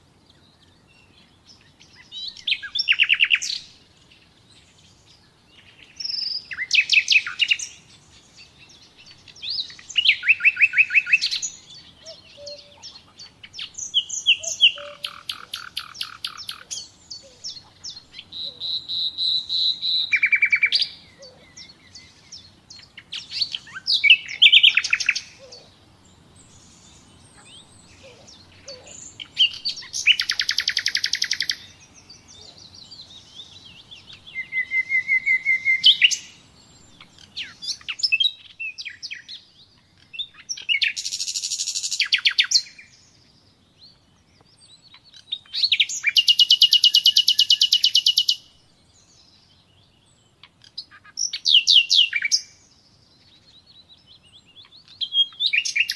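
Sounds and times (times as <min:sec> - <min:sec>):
long pure bird whistle: 0:00.0 - 0:55.9
nightingale singing: 0:00.0 - 0:55.9.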